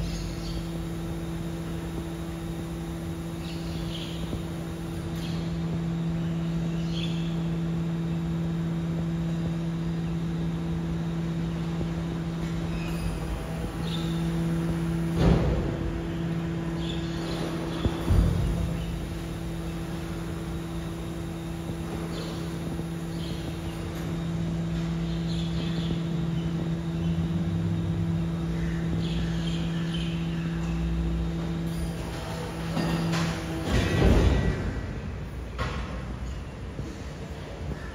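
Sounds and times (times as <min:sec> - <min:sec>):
birds chirping: 0:00.0 - 0:15.1, 0:16.0 - 0:31.6
truck electric hum: 0:00.0 - 0:37.9.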